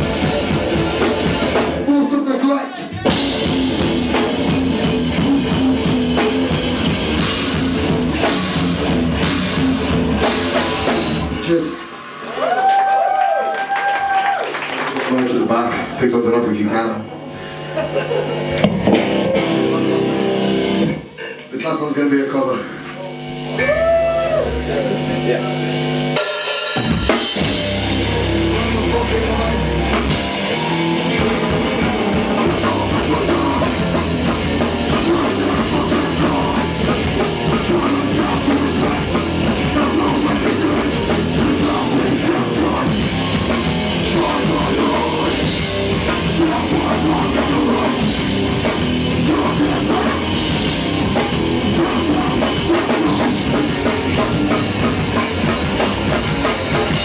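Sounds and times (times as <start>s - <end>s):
punk band playing live: 0.0s - 16.0s, 17.2s - 57.0s.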